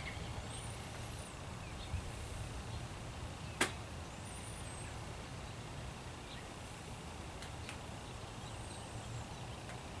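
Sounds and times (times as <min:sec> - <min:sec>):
bird chirping: 0:00.0 - 0:06.6, 0:07.5 - 0:10.0.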